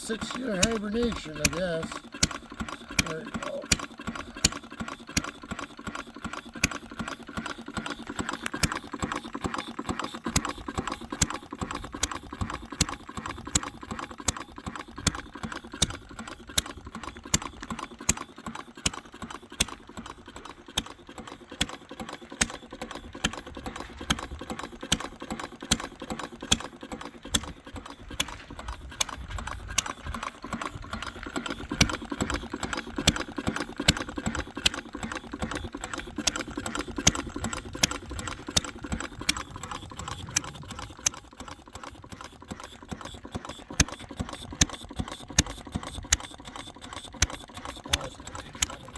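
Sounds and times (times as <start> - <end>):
old engine clattering: 0.0 - 48.9.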